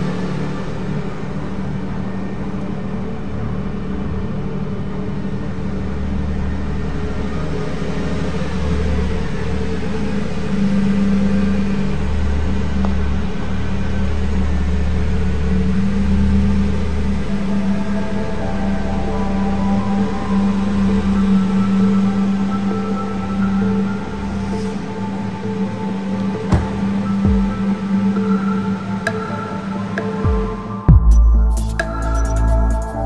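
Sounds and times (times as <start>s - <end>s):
car engine humming: 0.0s - 33.0s.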